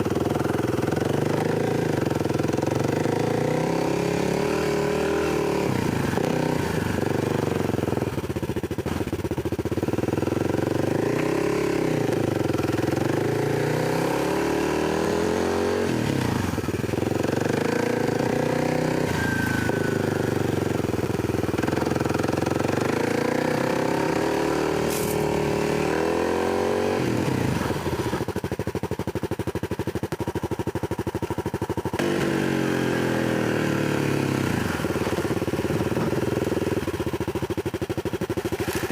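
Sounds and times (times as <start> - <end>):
dirt bike engine revving: 0.0 - 8.1, 9.9 - 28.3, 31.9 - 37.2.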